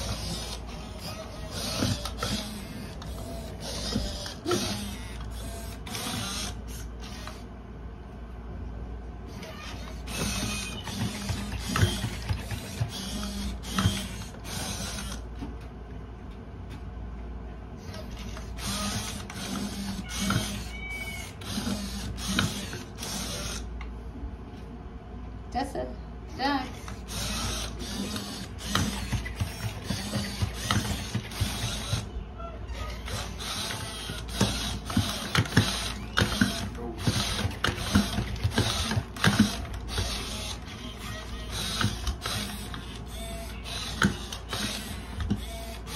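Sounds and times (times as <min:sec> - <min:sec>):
servo motors whirring: 0:00.0 - 0:07.5, 0:09.3 - 0:15.3, 0:17.8 - 0:23.8, 0:26.7 - 0:32.2, 0:32.8 - 0:45.9.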